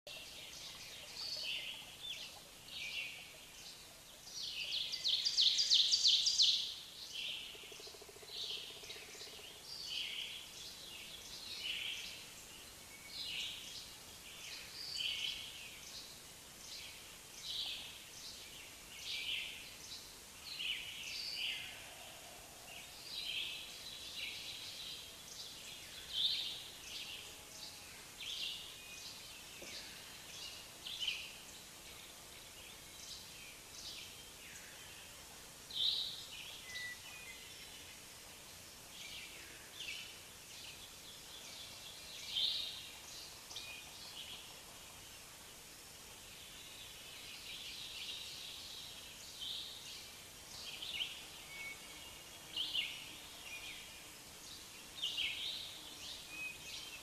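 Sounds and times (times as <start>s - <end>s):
birds singing: 0.1s - 57.0s.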